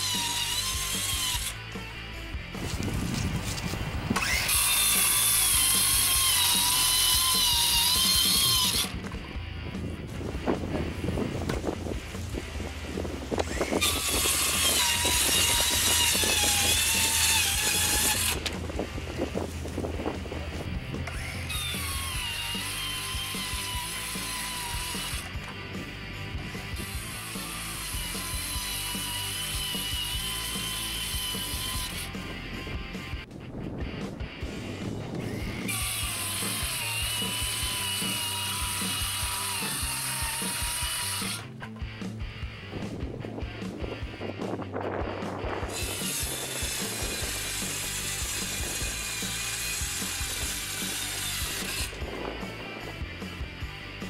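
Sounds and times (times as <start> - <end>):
circular saw cutting wood: 0.0 - 9.1, 10.8 - 19.5, 20.2 - 32.6, 34.6 - 41.7, 45.6 - 52.9.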